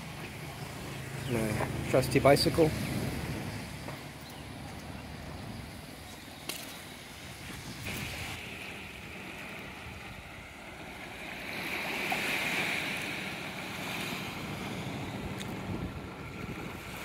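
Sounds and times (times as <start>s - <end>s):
wind buffeting microphone: 0.0s - 6.5s, 7.1s - 17.0s
waves washing onto sand: 0.0s - 17.0s.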